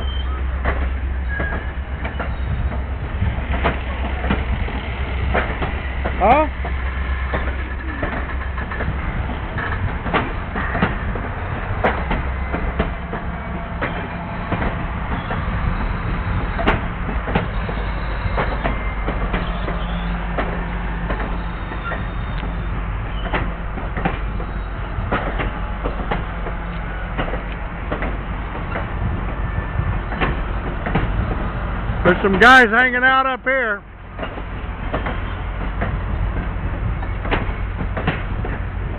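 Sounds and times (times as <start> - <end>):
train cars rolling on rails: 0.0 - 38.9
wheels clicking over rail joints: 0.0 - 38.9.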